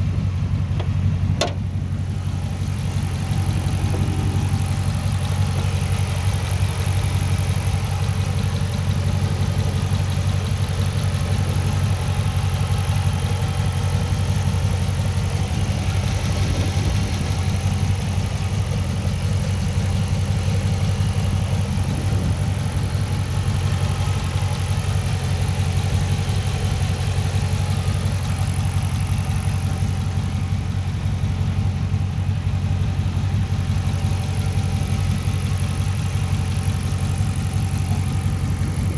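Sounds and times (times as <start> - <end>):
car engine idling loudly: 0.0 - 38.9.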